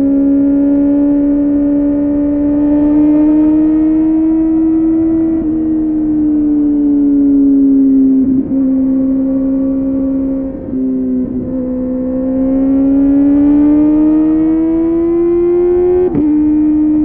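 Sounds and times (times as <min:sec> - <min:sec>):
motorcycle engine revving high: 0:00.0 - 0:17.0.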